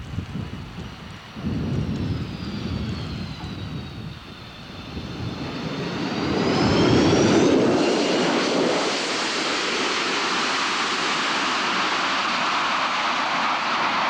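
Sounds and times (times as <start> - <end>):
aircraft engine fly-by: 0.0 - 14.0.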